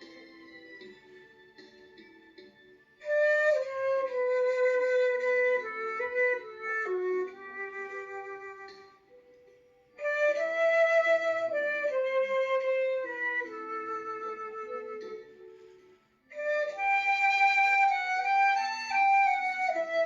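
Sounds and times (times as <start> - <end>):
flute playing slow melody: 0.0 - 20.0
soft accompaniment track: 0.0 - 20.0.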